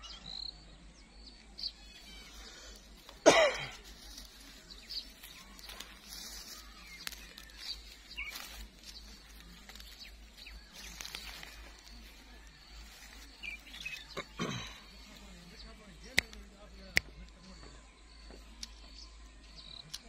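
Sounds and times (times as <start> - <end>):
quiet outdoor background noise: 0.0 - 20.0.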